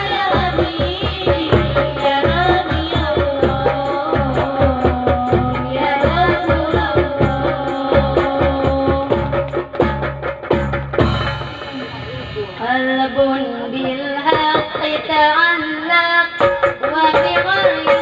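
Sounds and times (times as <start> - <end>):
women singing into microphones: 0.0 - 10.0, 12.6 - 18.0
busy percussion accompaniment: 0.0 - 18.0.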